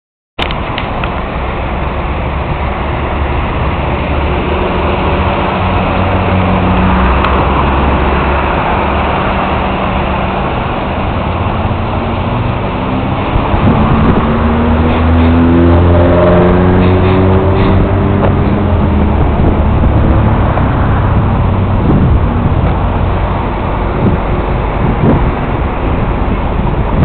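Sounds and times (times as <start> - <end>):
engine accelerating: 0.4 - 27.0
vehicle engine and road noise: 0.4 - 27.0.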